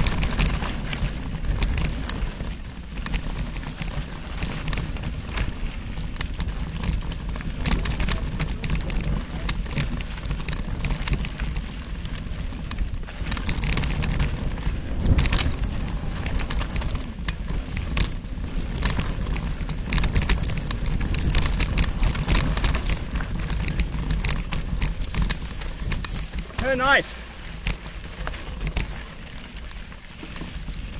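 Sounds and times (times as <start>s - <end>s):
bike and camera mount rattling: 0.0s - 30.9s
steady low rumble: 0.0s - 30.9s
tyres crunching over loose stones: 0.0s - 30.9s.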